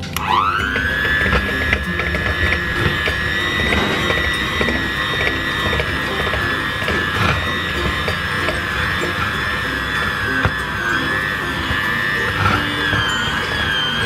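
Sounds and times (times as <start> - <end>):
electric hand mixer whining: 0.0 - 14.0.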